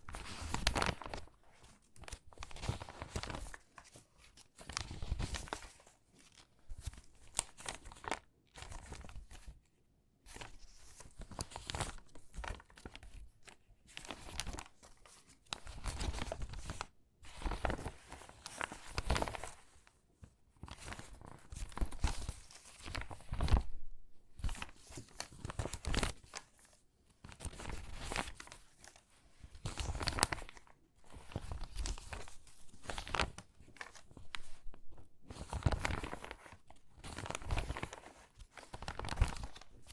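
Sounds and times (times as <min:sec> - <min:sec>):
magazine pages crackling and rustling: 0:00.0 - 0:09.6, 0:10.3 - 0:19.9, 0:20.5 - 0:39.9.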